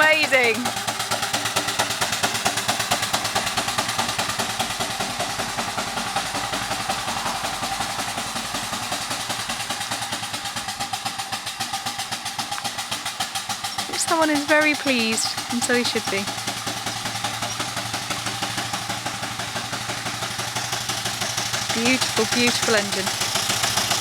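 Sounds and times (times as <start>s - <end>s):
steam engine exhaust chuffing: 0.0s - 24.0s.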